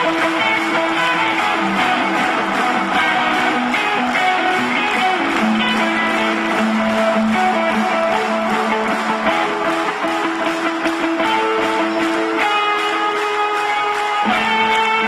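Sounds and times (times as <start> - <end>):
electric guitar lead line: 0.0 - 15.0
live rock band: 0.0 - 15.0.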